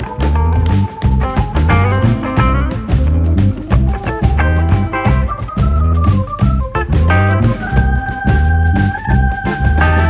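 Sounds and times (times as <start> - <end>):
held organ-like notes: 0.0 - 10.0
pulsing bass line: 0.0 - 10.0.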